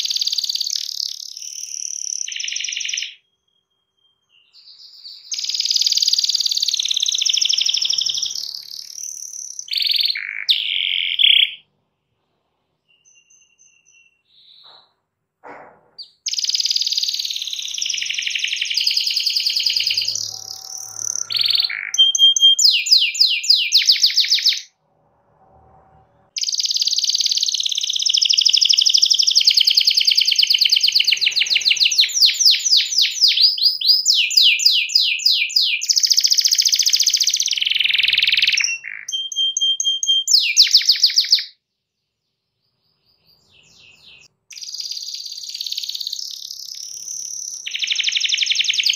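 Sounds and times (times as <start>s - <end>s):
canary singing with trills: 0.0s - 11.7s, 12.8s - 14.9s, 15.5s - 24.7s, 26.2s - 41.6s, 42.6s - 48.9s.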